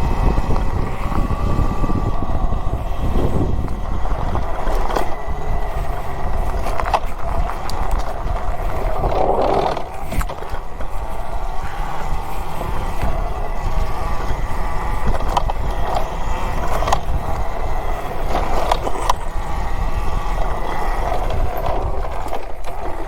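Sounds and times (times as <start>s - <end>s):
faint steady whine: 0.0s - 23.0s
tyres running on dirt trail: 0.0s - 23.0s
wind rushing over microphone: 0.0s - 23.0s.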